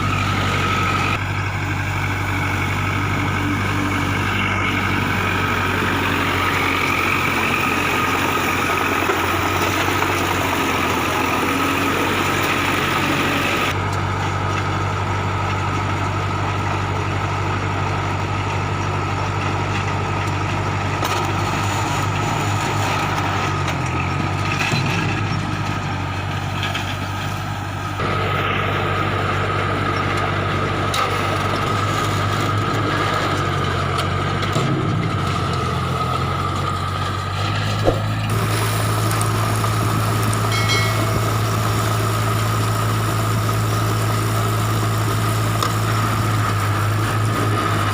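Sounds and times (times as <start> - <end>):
baler mechanical whine: 0.0 - 47.9
tractor diesel engine running: 0.0 - 47.9.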